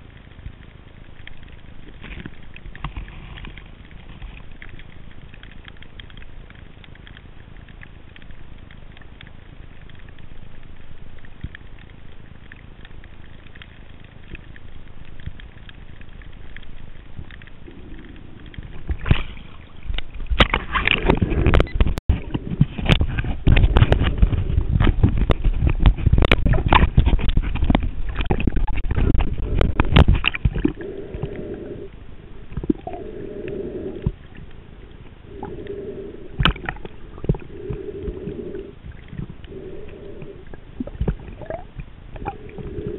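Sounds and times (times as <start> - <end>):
faint steady underwater hiss: 0.0 - 42.9
water crackling sloshing and gurgling: 0.0 - 42.9.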